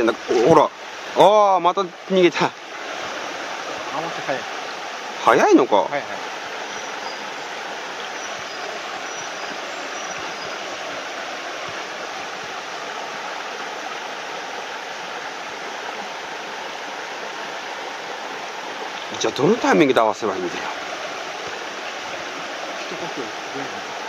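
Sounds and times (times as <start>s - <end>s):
stream running over stones: 0.0s - 24.0s.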